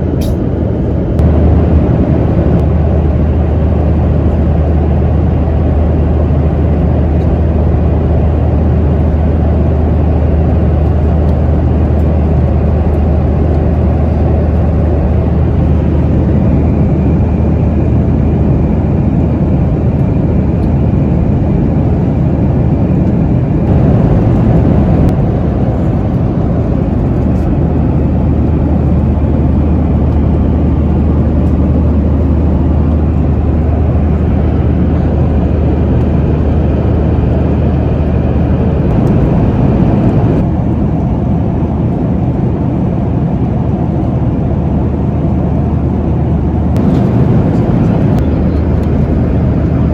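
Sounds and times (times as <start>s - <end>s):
airplane cabin drone: 0.0s - 49.9s.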